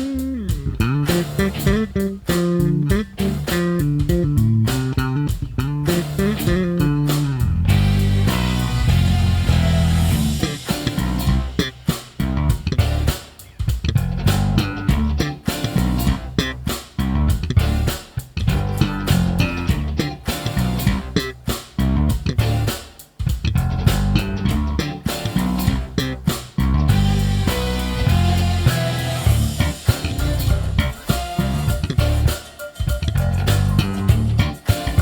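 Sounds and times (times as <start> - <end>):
bass guitar playing: 0.0 - 35.0.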